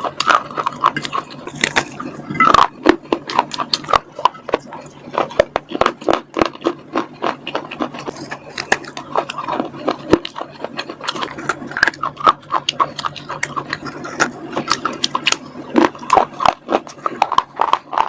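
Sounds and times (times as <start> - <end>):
crunchy bars being chewed: 0.0 - 18.0.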